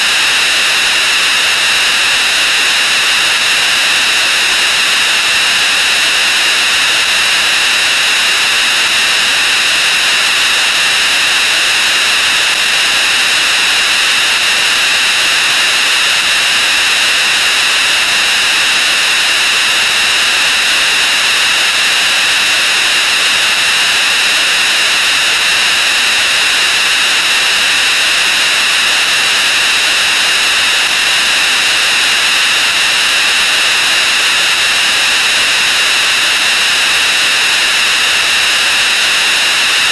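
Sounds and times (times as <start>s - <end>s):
harsh static hiss: 0.0s - 39.9s.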